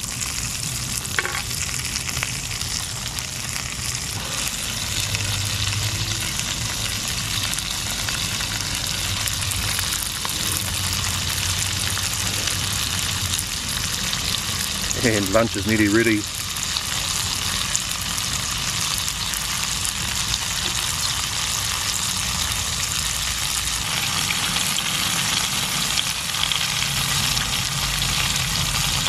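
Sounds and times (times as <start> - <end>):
fish sizzling in a frying pan: 0.0 - 29.0.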